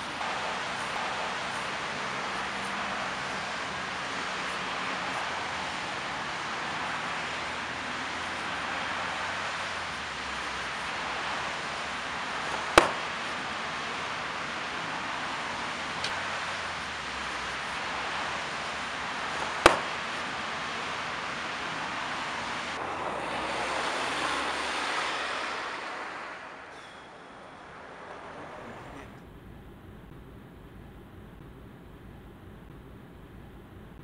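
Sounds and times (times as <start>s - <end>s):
steady hissing noise: 0.0s - 34.0s.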